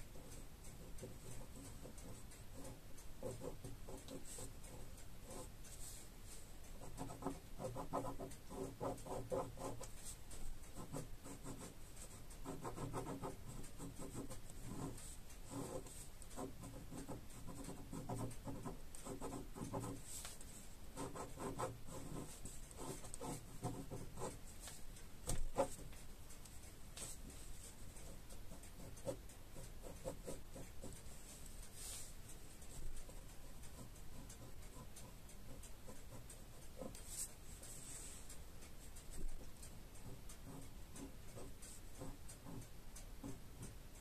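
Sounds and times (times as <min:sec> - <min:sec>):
pen scratching on paper: 0:00.0 - 0:26.0, 0:27.0 - 0:38.3, 0:38.9 - 0:43.7.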